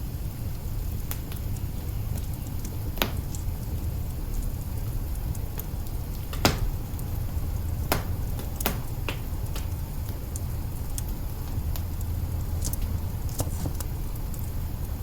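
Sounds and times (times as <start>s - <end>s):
fire crackling and popping: 0.0s - 15.0s
fire roaring: 0.0s - 15.0s.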